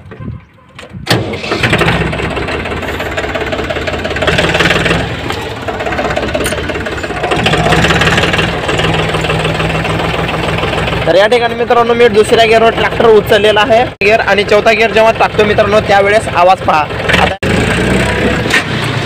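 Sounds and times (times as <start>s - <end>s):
tractor diesel engine running: 1.1s - 19.0s.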